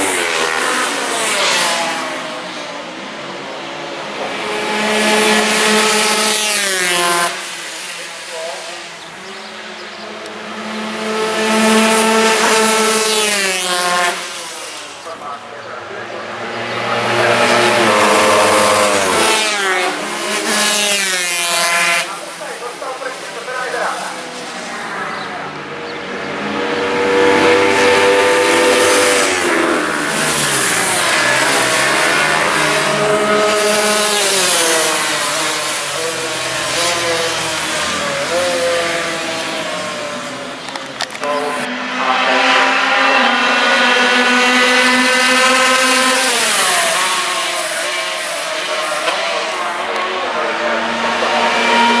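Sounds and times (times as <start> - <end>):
racing motorcycle passing: 0.0 - 52.0.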